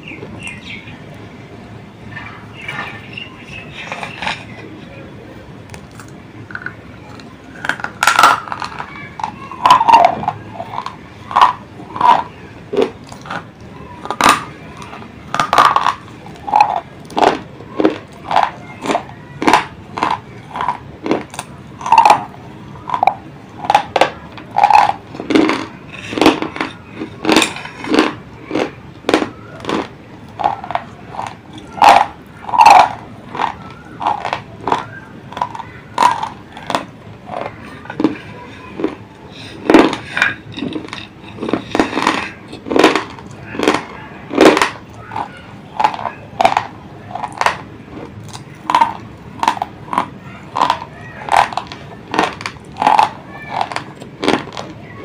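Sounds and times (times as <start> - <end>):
crunching of chewed pencils: 2.1 - 5.0, 5.6 - 55.0.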